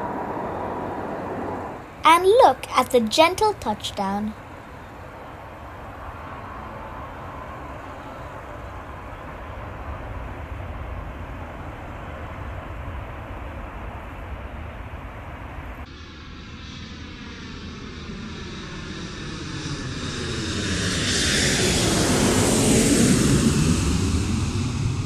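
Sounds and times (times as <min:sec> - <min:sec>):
jet airliner passing overhead: 0:00.0 - 0:02.0, 0:04.4 - 0:25.0.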